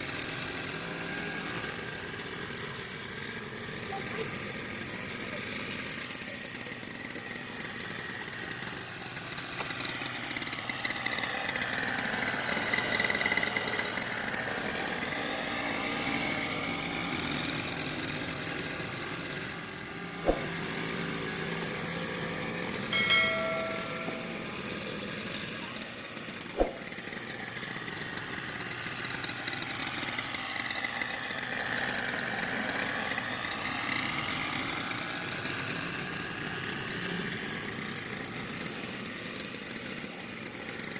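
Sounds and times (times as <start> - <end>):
motor running: 0.0 - 40.9.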